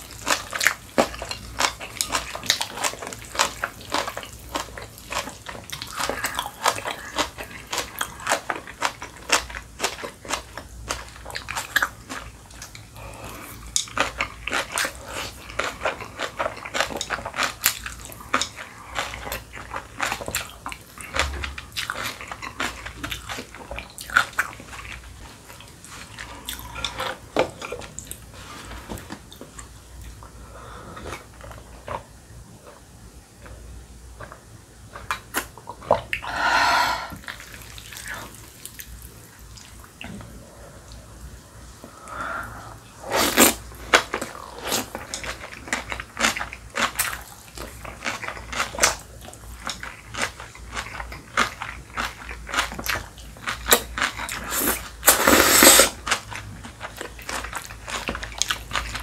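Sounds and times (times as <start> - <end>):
slurping and chewing noodles: 0.0 - 32.1, 41.9 - 59.0.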